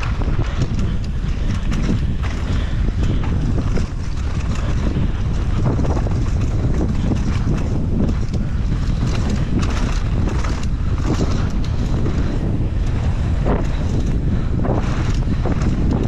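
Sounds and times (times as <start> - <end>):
bike tyres clattering and crunching: 0.0 - 16.0
wind buffeting microphone: 0.0 - 16.0.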